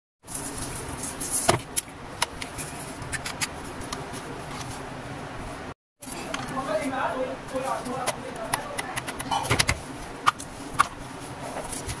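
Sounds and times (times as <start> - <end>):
steady hum and hiss: 0.2 - 12.0.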